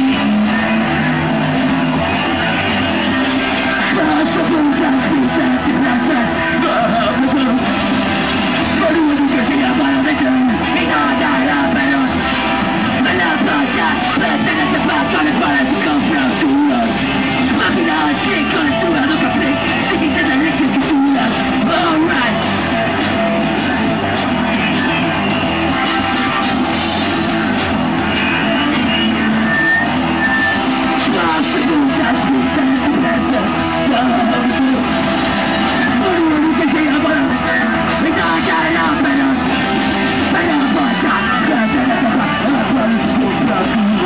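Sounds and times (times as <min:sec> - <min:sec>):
distorted electric guitar: 0:00.0 - 0:44.0
punk band playing live: 0:00.0 - 0:44.0
shouted vocals: 0:00.0 - 0:44.0.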